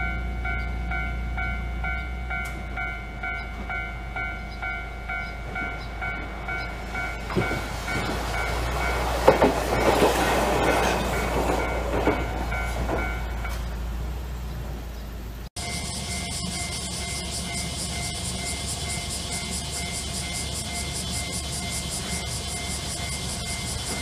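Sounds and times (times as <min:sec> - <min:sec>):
level crossing warning bell: 0:00.0 - 0:13.9, 0:15.6 - 0:24.0
tram wheels clacking over rail joints: 0:00.0 - 0:24.0.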